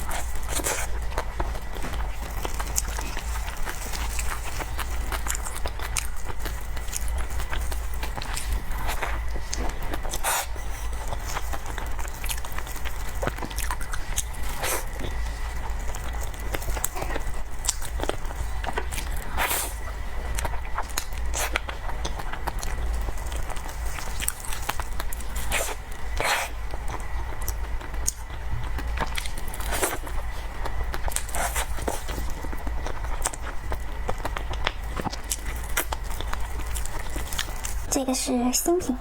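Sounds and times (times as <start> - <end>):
person chewing cake: 0.0 - 37.9
steady low hum: 0.0 - 39.0.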